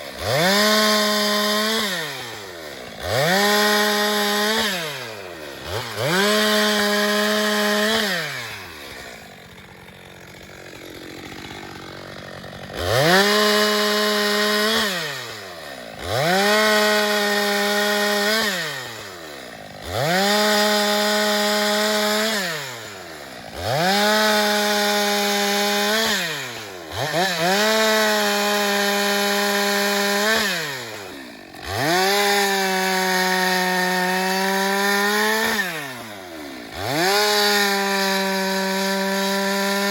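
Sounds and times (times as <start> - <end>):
chainsaw revving through wood: 0.0 - 39.9.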